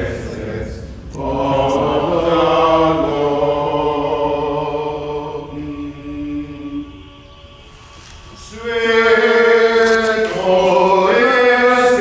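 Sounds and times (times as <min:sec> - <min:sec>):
voices chanting long notes: 0:00.0 - 0:12.0.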